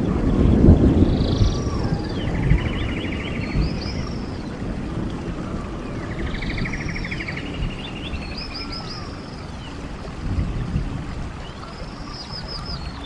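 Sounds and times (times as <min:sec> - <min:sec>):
songbirds singing: 0:00.0 - 0:13.0
stream water running: 0:00.0 - 0:13.0.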